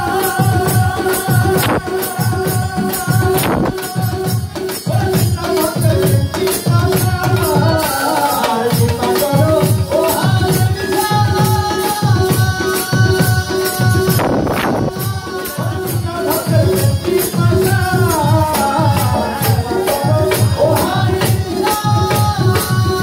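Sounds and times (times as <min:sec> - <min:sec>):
drum beat: 0:00.0 - 0:23.0
jingling percussion: 0:00.0 - 0:23.0
man singing into microphone: 0:00.0 - 0:23.0.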